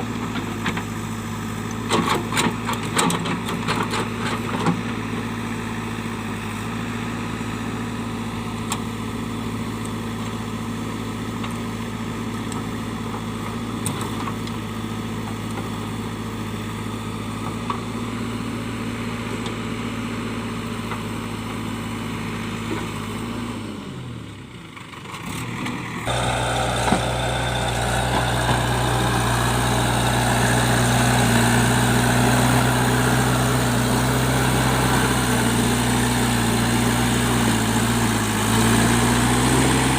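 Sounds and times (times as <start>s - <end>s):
diesel engine running with rattle: 0.0s - 39.9s.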